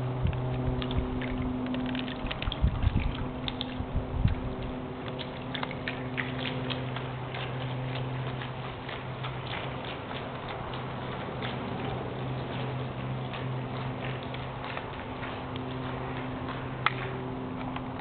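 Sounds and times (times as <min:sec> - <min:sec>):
small clicks and ticks: 0:00.3 - 0:18.0.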